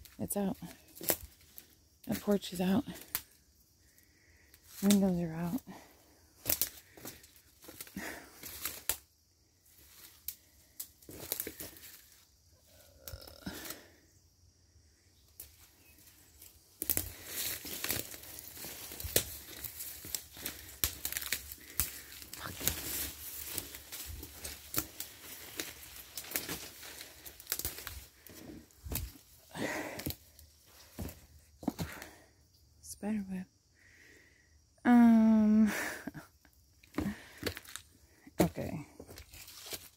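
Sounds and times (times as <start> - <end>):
leaves and twigs crackling underfoot: 0.0 - 32.2, 36.6 - 39.9.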